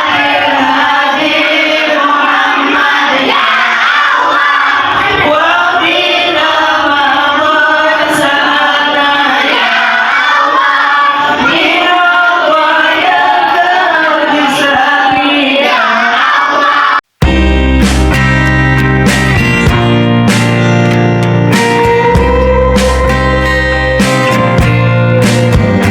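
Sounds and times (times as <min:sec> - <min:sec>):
children singing together: 0:00.0 - 0:17.0, 0:21.6 - 0:25.9.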